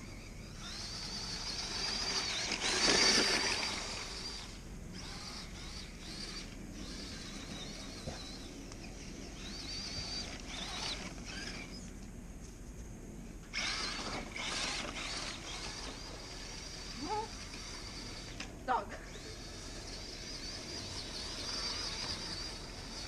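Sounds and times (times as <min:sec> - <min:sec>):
rc car motor whining: 0:00.0 - 0:12.1, 0:13.4 - 0:23.0.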